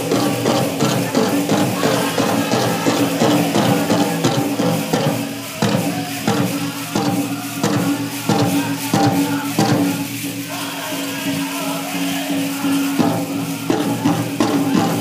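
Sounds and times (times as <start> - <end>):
big drum steady beat: 0.0 - 15.0
group singing in chorus: 0.0 - 15.0.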